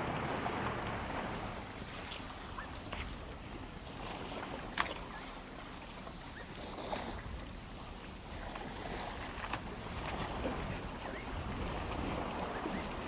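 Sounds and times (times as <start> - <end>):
elephants splashing through water: 0.0 - 13.0.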